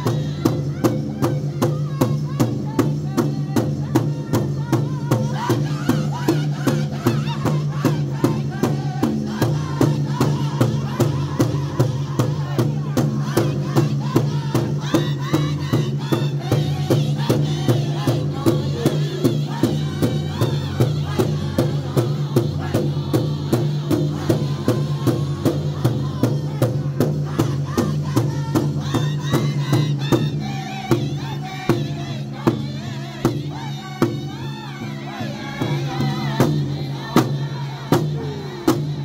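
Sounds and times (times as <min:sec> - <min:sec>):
group singing high: 0:00.0 - 0:39.0
large drum beating: 0:00.0 - 0:39.0.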